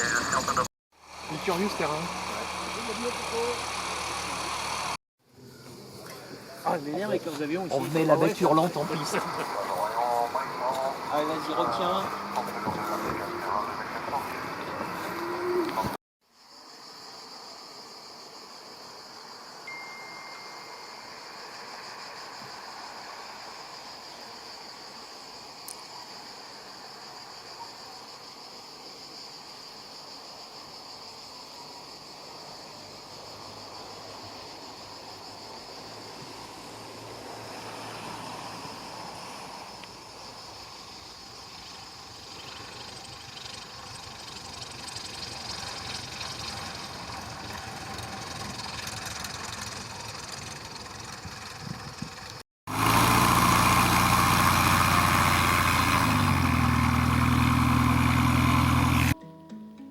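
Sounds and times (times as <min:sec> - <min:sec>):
insects chirping: 0:00.0 - 0:52.4.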